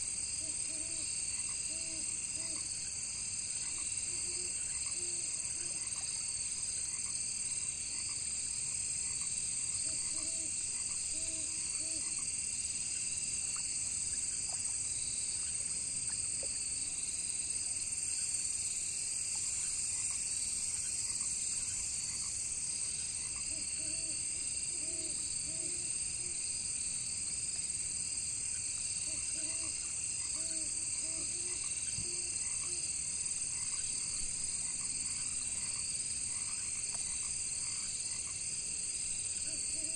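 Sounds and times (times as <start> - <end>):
crickets and insects chirping: 0.0 - 39.9
frogs croaking: 0.3 - 18.6, 19.2 - 26.5, 28.5 - 39.9.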